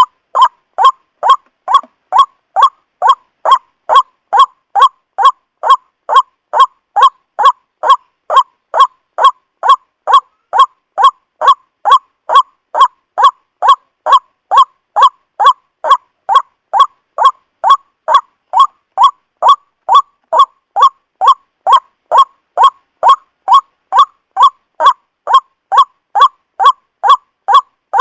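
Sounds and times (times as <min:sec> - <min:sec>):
harsh repeated bird call: 0:00.0 - 0:28.0.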